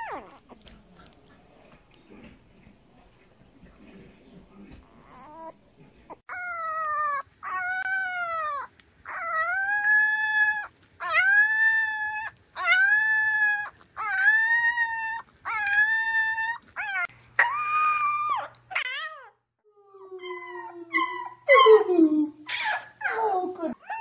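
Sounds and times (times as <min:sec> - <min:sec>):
puppy howling: 0:00.0 - 0:00.8, 0:04.8 - 0:05.6, 0:06.3 - 0:24.0.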